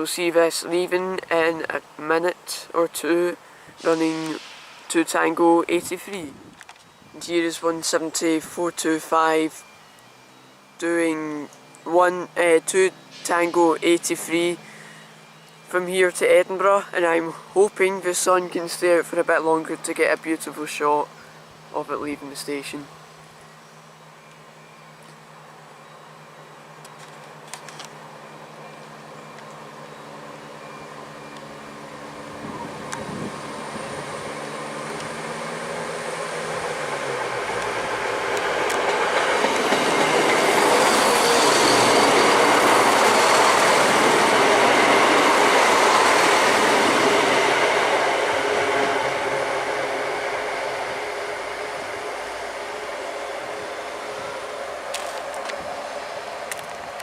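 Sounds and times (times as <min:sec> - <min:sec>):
diesel train accelerating: 0:00.0 - 0:57.0.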